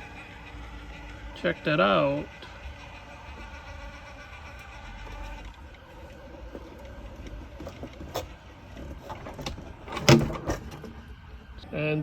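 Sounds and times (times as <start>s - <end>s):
robot lawnmower motors whining: 0.0s - 12.0s.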